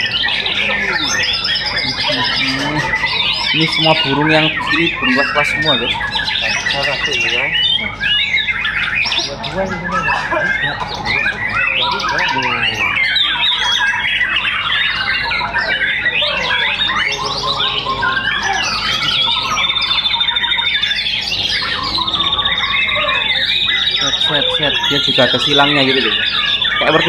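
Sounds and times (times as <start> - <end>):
many songbirds singing: 0.0 - 27.0
songbird singing loudly: 0.0 - 27.0.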